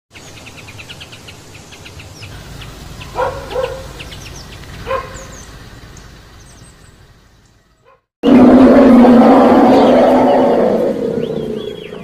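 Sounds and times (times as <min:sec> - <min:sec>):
small birds chirping: 0:00.1 - 0:12.0
low-pitched bird calls: 0:01.8 - 0:12.0.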